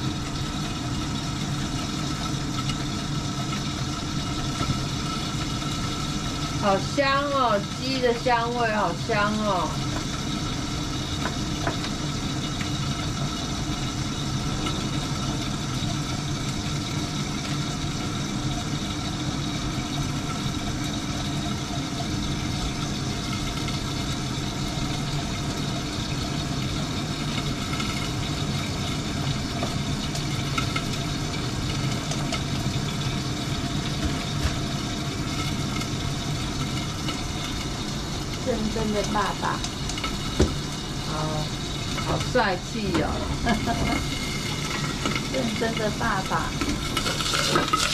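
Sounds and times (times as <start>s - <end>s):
exhaust fan humming: 0.0s - 47.9s.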